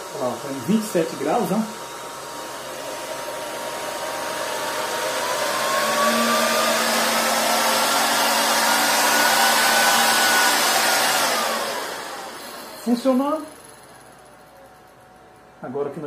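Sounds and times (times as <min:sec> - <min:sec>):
air compressor motor whining: 0:00.0 - 0:15.6.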